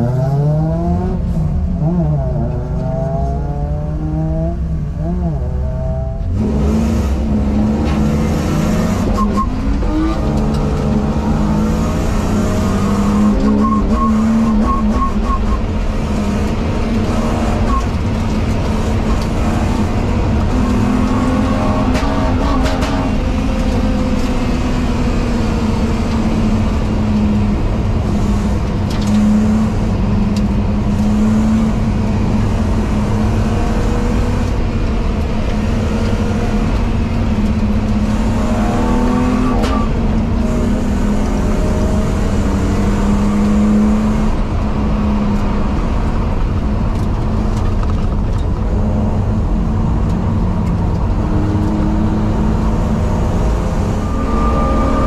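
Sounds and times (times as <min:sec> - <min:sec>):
race car engine accelerating: 0:00.0 - 0:55.0
road and wind noise: 0:00.0 - 0:55.0.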